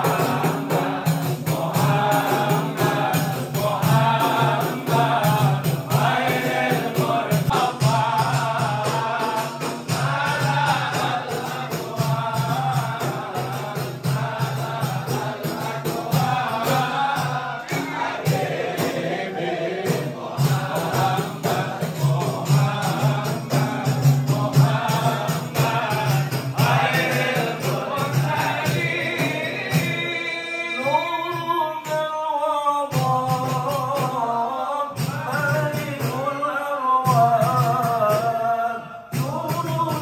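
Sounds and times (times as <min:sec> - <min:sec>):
frame drums beating: 0:00.0 - 0:32.2, 0:32.9 - 0:40.0
men singing together: 0:00.0 - 0:40.0.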